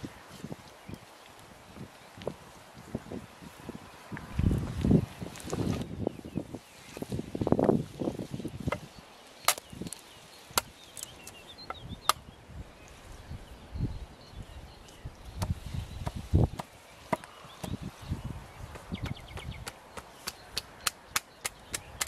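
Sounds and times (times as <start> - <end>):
wind on microphone: 0.0 - 20.8.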